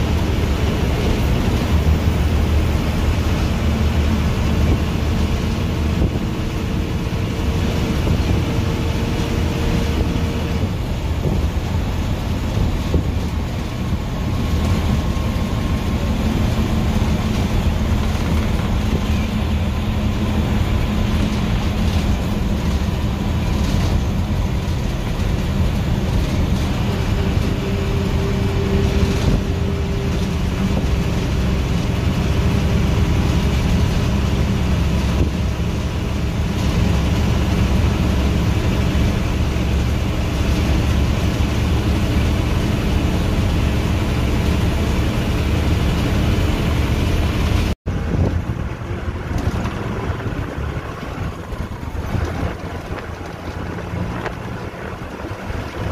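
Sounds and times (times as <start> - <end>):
bus engine and road drone: 0.0 - 55.9.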